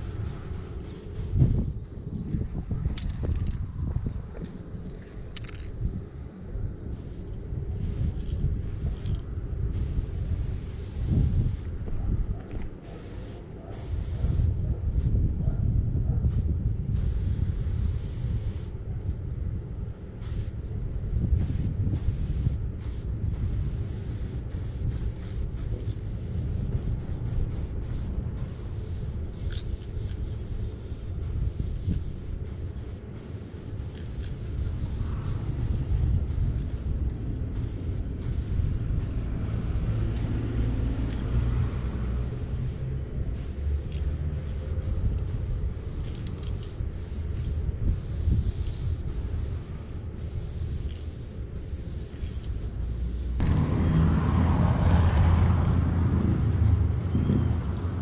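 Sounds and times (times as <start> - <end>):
spray paint can hissing: 0.0 - 2.2, 6.9 - 11.8, 12.8 - 15.1, 16.3 - 18.8, 20.2 - 20.6, 21.4 - 53.6, 54.5 - 58.0
steady low rumble: 0.0 - 58.0.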